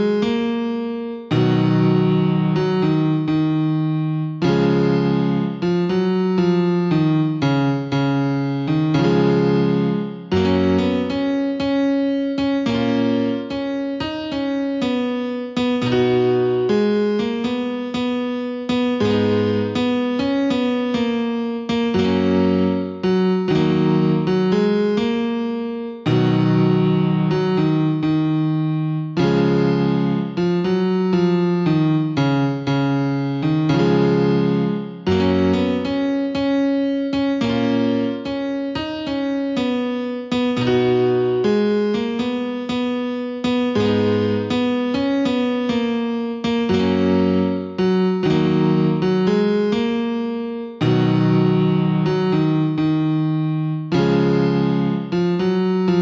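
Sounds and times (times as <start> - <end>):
keyboard chords ringing: 0.0 - 56.0.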